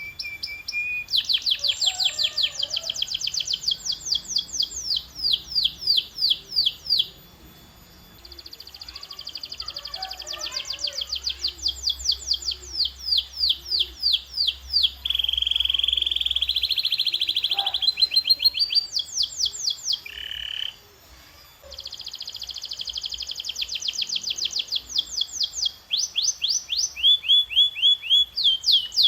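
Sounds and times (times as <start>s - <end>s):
canary trilling: 0.0s - 7.3s, 8.2s - 29.0s.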